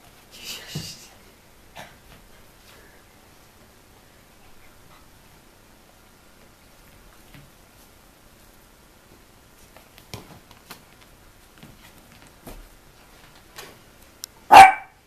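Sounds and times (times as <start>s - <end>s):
dog paws tapping and scuffing: 2.0s - 14.2s.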